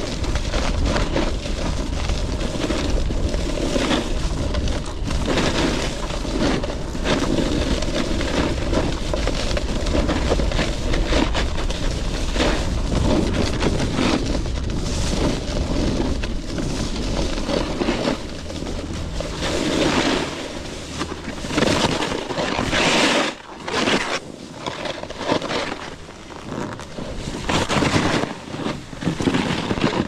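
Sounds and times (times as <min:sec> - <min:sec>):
snowboard scraping over snow: 0:00.0 - 0:30.0
wind rumbling on microphone: 0:00.0 - 0:30.0.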